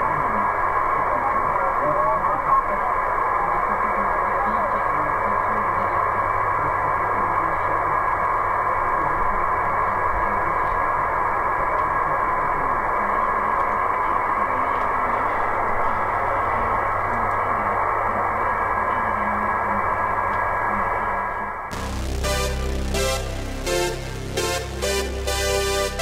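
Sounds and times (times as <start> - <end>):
radio receiver hiss: 0.0 - 26.0.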